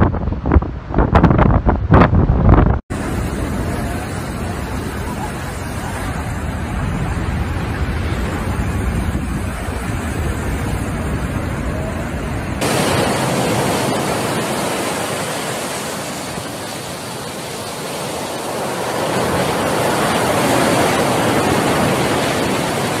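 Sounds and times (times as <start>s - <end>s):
wind buffeting microphone: 0.0s - 23.0s
surf breaking on shore: 2.9s - 23.0s.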